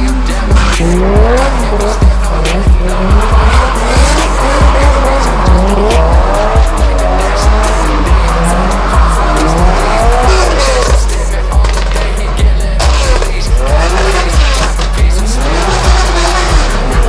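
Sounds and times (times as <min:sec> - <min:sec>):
car engines revving: 0:00.0 - 0:17.0
hip-hop beat: 0:00.0 - 0:17.0.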